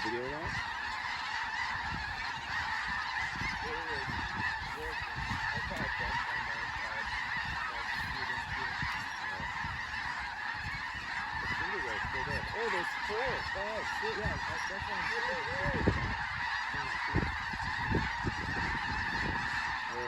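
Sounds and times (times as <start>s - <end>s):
flock of geese honking: 0.0s - 20.0s.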